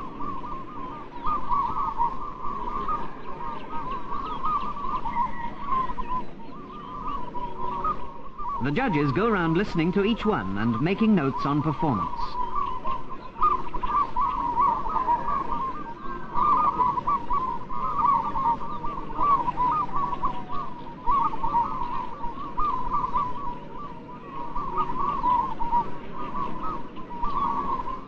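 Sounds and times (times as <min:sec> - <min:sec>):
doves cooing and trilling: 0:00.0 - 0:28.0.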